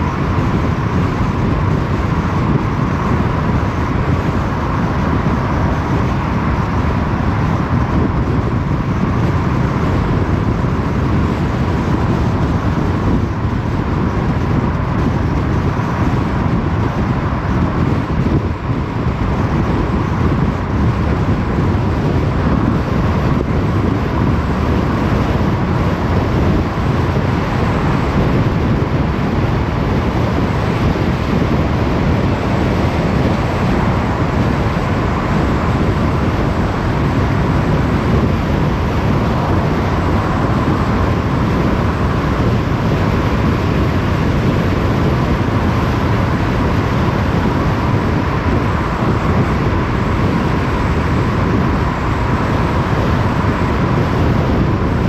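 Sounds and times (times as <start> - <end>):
car engine hum: 0.0 - 55.0
tyre and road noise: 0.0 - 55.0.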